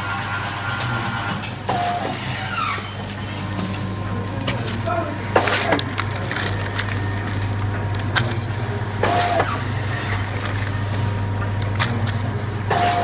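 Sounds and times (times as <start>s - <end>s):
machine motor hum: 0.0s - 13.0s
sharp machine clack: 0.0s - 13.0s.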